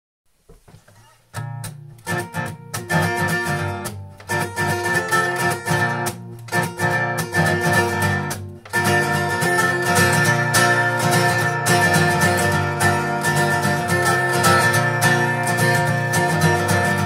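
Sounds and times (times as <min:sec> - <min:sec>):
acoustic guitar strumming: 0:00.6 - 0:17.0.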